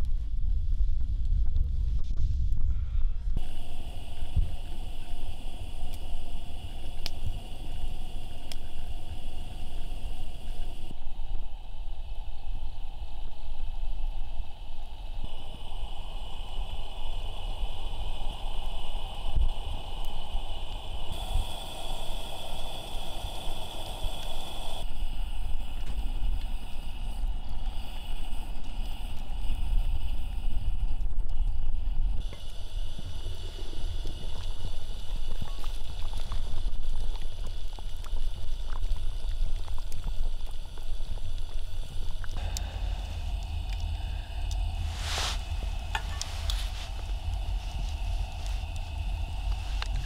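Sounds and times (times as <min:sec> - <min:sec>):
wind rumble on microphone: 0:00.0 - 0:50.0
stew bubbling: 0:03.4 - 0:50.0.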